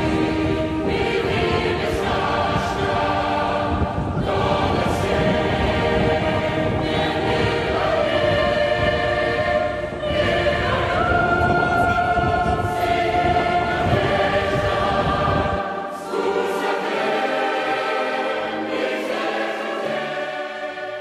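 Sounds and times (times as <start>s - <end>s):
choir singing held notes: 0.0s - 21.0s.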